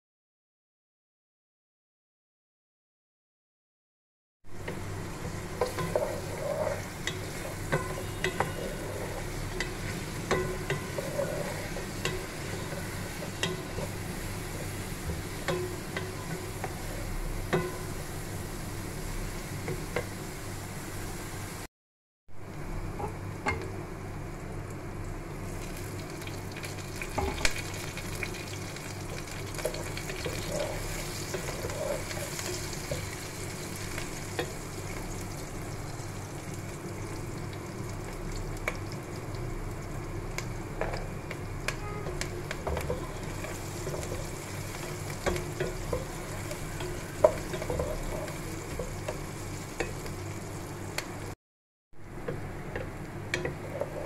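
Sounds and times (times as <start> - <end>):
onions sizzling in oil: 4.5 - 21.7, 24.9 - 51.4.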